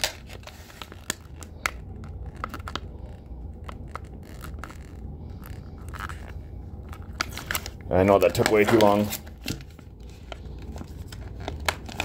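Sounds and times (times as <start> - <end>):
plastic film lid peeling: 0.0 - 2.9, 3.6 - 12.0
plastic crackling: 0.0 - 12.0.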